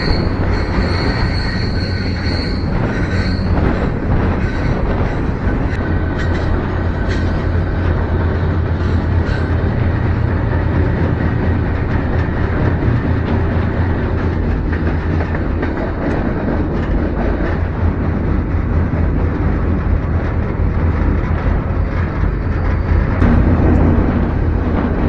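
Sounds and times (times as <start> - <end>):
freight train rumbling: 0.0 - 25.0.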